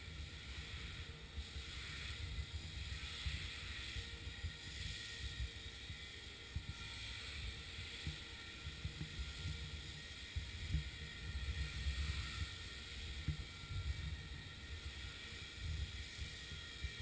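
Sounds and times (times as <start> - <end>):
rc helicopter rotor whine: 0.0 - 17.0.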